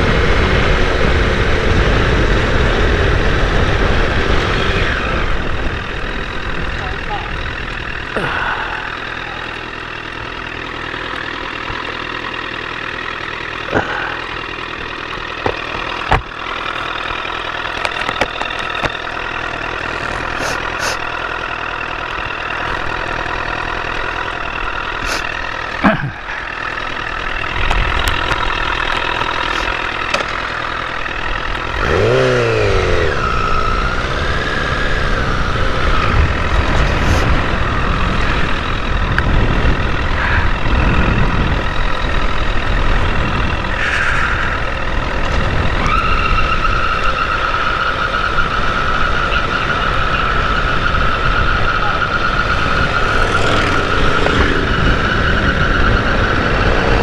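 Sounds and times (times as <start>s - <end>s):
motorcycle engine revving: 0.0s - 57.0s
road and wind noise: 0.0s - 57.0s.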